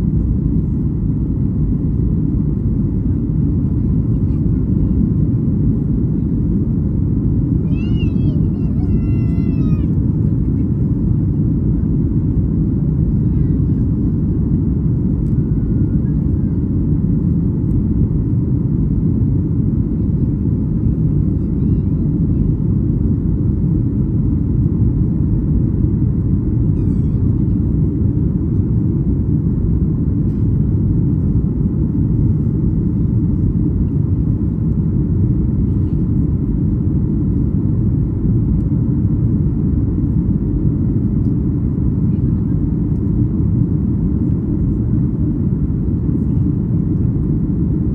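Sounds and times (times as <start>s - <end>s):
airplane cabin rumble: 0.0s - 47.9s.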